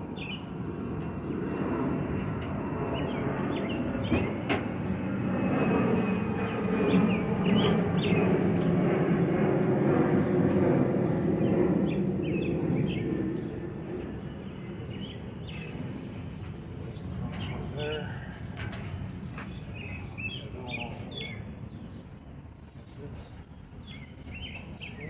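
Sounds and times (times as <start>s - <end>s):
birds chirping: 0.0s - 25.0s
passing engine hum: 0.0s - 25.0s.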